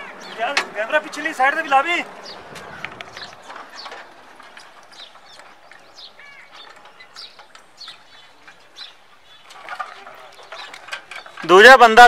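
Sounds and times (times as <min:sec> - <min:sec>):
faint outdoor background: 0:00.0 - 0:12.0
small birds chirping: 0:00.0 - 0:12.0.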